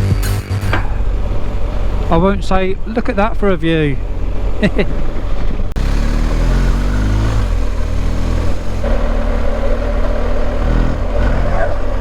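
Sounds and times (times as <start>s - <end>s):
low wind rumble: 0.6s - 12.0s
motorcycle engine cruising: 0.6s - 12.0s.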